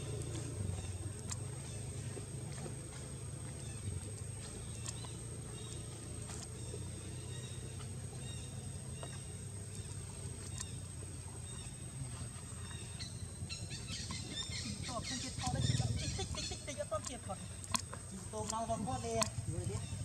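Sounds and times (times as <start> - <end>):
faint chirps and ticks: 0.0 - 20.0
steady low hum: 0.0 - 20.0.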